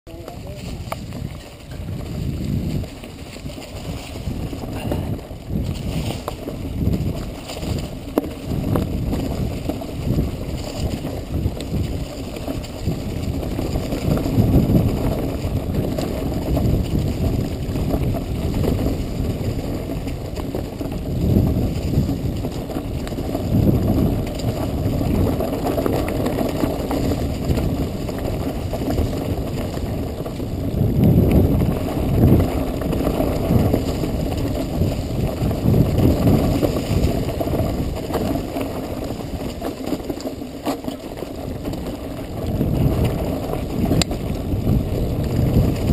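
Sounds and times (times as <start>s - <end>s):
bike rattling and knocking: 0.1s - 45.9s
tyres rolling over dirt and leaves: 0.1s - 45.9s
wind noise on microphone: 0.1s - 45.9s.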